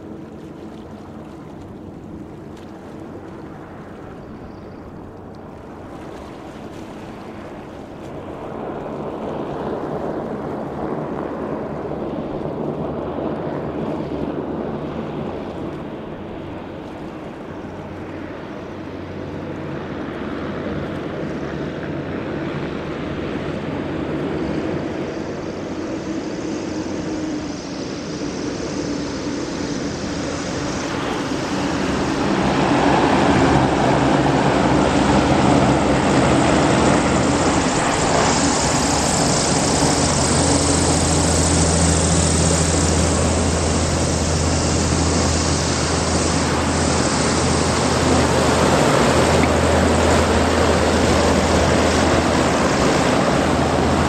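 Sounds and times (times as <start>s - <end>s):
hovercraft droning: 0.0s - 54.0s.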